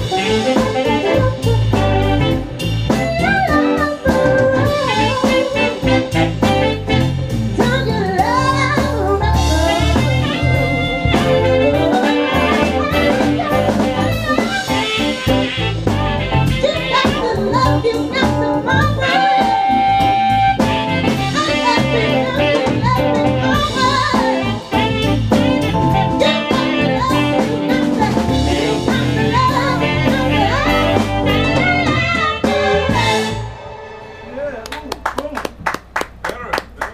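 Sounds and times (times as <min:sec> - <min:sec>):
electric bass: 0:00.0 - 0:33.6
live band playing r and b: 0:00.0 - 0:36.8.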